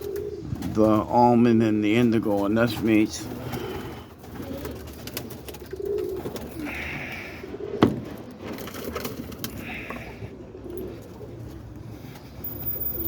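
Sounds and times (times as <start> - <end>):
pigeons cooing softly: 0.0 - 13.0.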